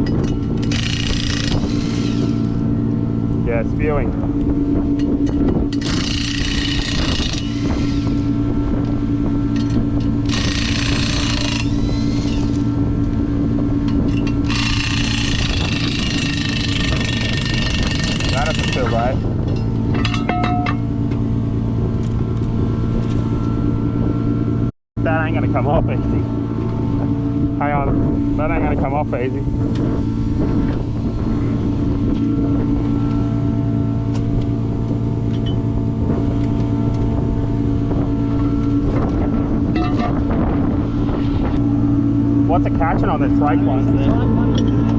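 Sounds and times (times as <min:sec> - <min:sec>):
car engine running steadily: 0:06.7 - 0:44.9.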